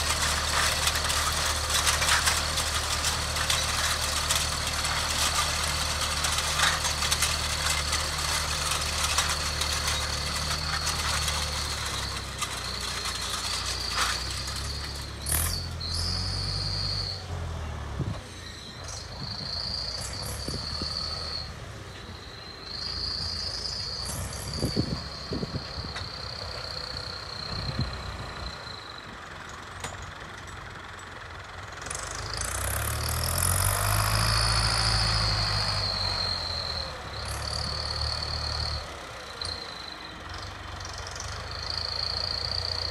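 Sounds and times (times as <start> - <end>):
tractor diesel engine: 0.0 - 42.9.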